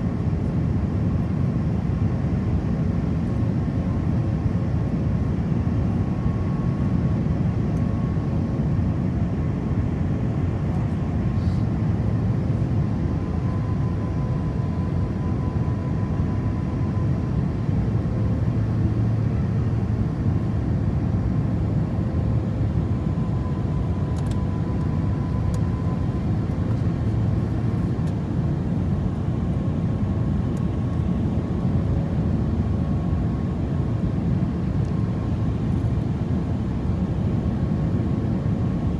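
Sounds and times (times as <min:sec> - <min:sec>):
airliner cabin engine rumble: 0:00.0 - 0:38.9
faint engine whine: 0:00.0 - 0:38.9.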